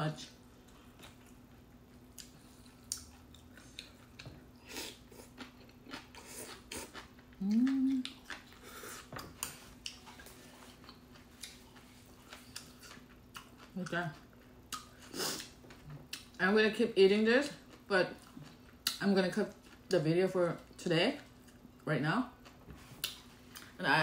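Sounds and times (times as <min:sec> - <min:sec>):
chewing and mouth smacks: 0:00.6 - 0:16.4, 0:17.4 - 0:20.0, 0:22.4 - 0:23.7.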